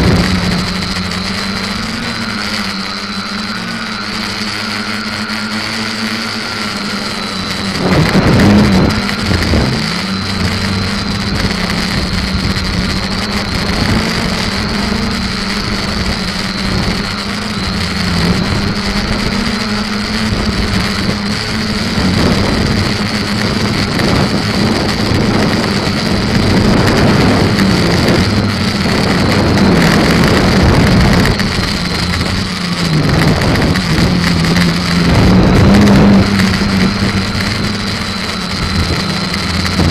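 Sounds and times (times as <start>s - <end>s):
drone motors and propellers buzzing: 0.0s - 39.9s
wind noise: 0.0s - 39.9s.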